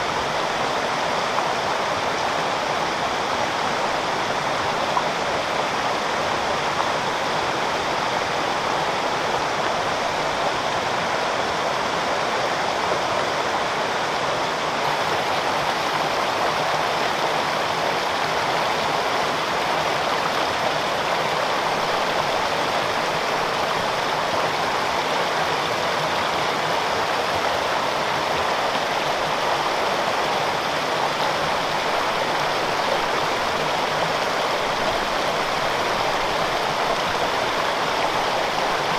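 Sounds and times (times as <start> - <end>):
water rushing and falling: 0.0 - 38.9.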